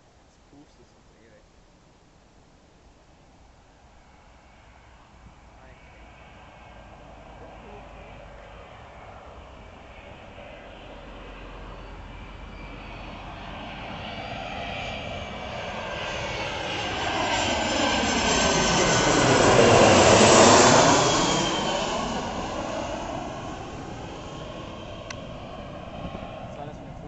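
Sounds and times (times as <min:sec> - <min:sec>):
jet engines passing low: 0:03.7 - 0:27.0
jet engine whine falling in pitch: 0:04.0 - 0:27.0.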